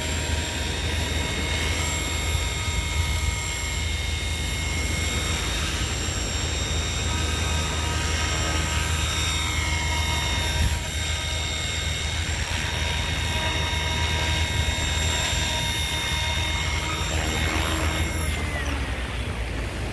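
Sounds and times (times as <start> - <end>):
low rotor noise: 0.0 - 19.9
model helicopter high whine: 0.0 - 19.9.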